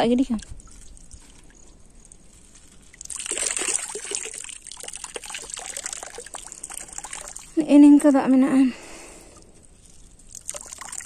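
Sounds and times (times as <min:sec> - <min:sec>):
water trickling onto water: 0:00.0 - 0:11.0.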